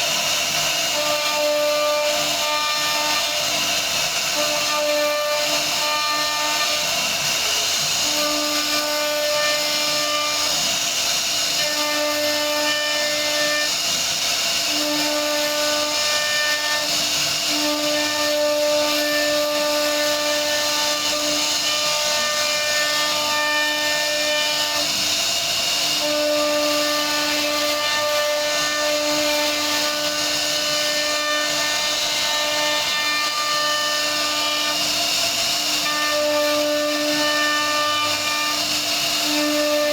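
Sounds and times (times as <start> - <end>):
cnc router cutting hiss: 0.0 - 39.9
pitched machine whine: 0.0 - 39.9.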